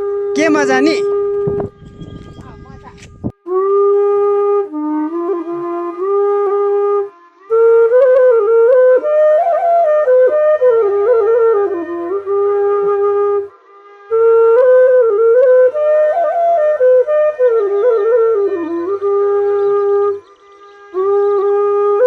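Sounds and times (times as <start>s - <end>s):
bamboo flute melody: 0.0s - 22.0s.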